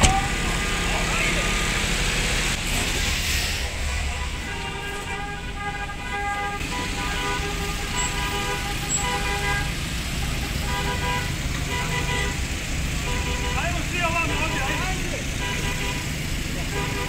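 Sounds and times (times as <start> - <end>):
car horns honking: 0.0 - 17.0
vehicle engines rumbling: 0.0 - 17.0.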